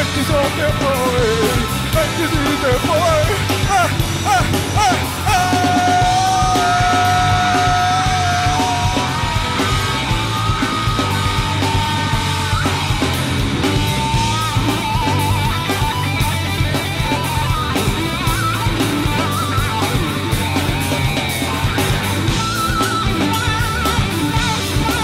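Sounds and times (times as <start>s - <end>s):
live rock band playing: 0.0s - 25.0s
long held high guitar notes: 1.9s - 25.0s.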